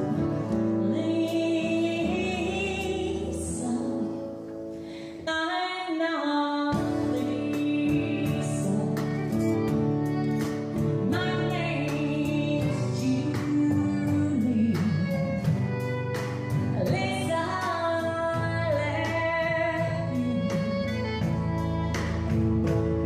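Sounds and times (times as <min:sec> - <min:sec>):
country band playing: 0:00.0 - 0:05.0, 0:06.8 - 0:23.0
drums: 0:00.0 - 0:05.2, 0:06.6 - 0:23.0
woman singing: 0:00.0 - 0:09.8, 0:10.9 - 0:21.7
acoustic-electric guitar: 0:00.0 - 0:23.0.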